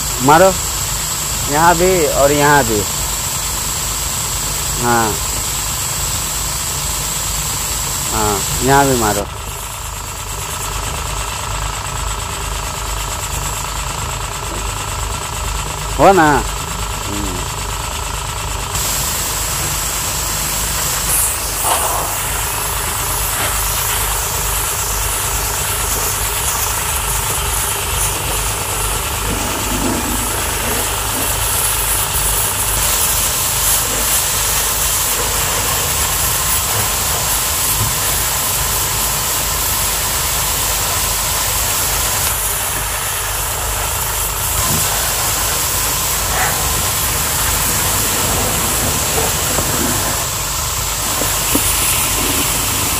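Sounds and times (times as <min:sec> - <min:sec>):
water jet hissing: 0:00.0 - 0:10.8, 0:18.7 - 0:52.9
pressure washer pump droning: 0:00.0 - 0:52.9.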